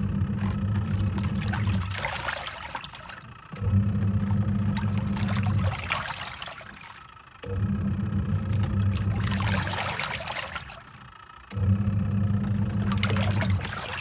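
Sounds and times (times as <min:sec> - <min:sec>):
water sloshing and splashing: 0:00.0 - 0:07.2, 0:08.4 - 0:11.1, 0:12.4 - 0:14.0
washing machine motor humming: 0:00.0 - 0:14.0.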